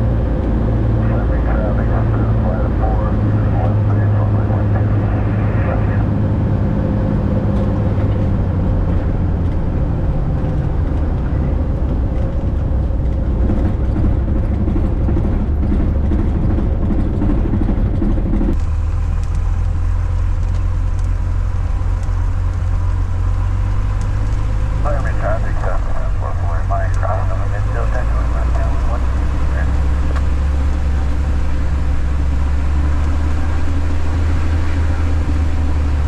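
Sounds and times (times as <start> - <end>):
propeller plane engine droning: 0.0 - 36.0.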